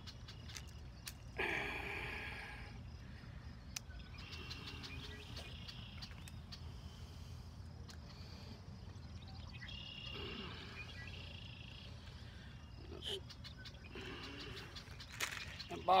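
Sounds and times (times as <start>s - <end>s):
bird chirps: 0.0s - 1.3s, 3.3s - 7.2s, 7.8s - 16.0s
steady low hum: 0.0s - 16.0s.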